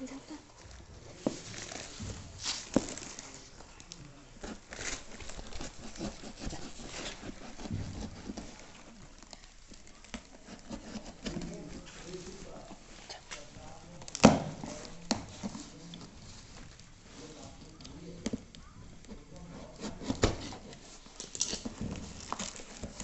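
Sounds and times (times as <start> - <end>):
crinkly bursts: 0.0 - 23.0.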